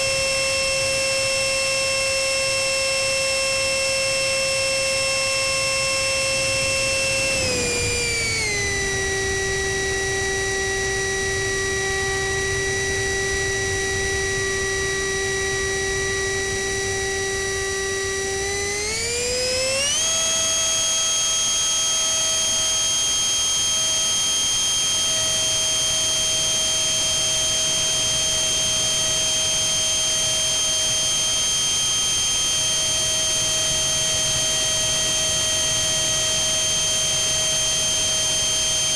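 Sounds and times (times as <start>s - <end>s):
electric ducted fan whining: 0.0s - 38.9s.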